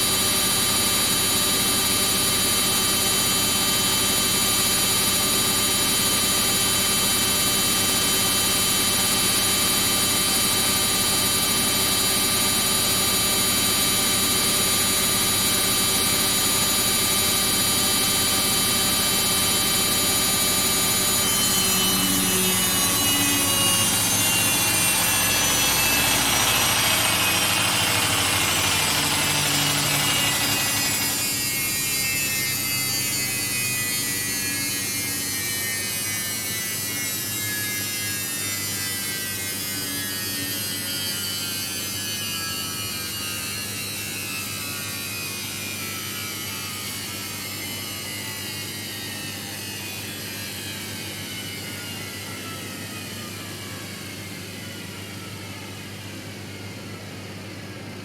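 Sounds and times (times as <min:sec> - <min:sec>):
washing machine spin whine: 0:00.0 - 0:58.0.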